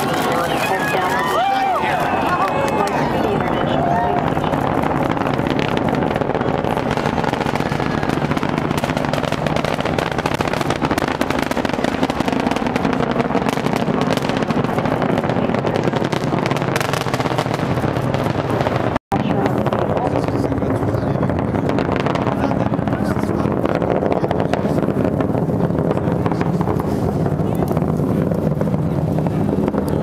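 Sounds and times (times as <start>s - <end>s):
rocket launch rumble with crackling: 0.0s - 30.0s.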